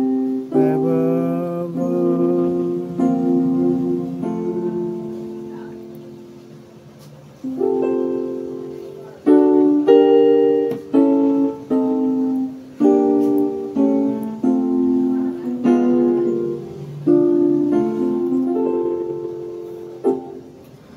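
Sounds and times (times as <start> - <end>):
keyboard piano chords: 0.0 - 20.9.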